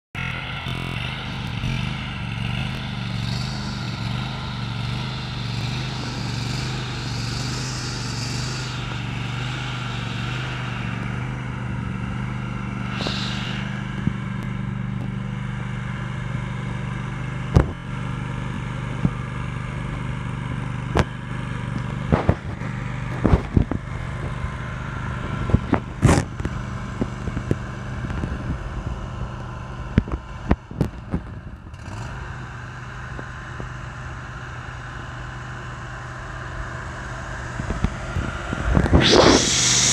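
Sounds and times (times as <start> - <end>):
lawn mower engine running: 0.2 - 39.9.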